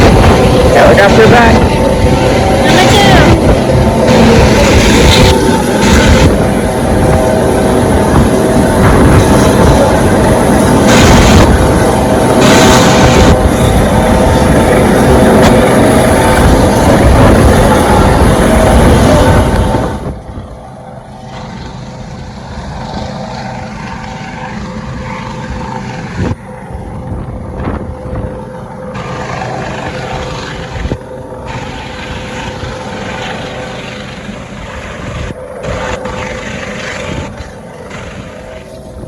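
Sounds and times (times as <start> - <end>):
helicopter hovering: 0.0 - 39.0.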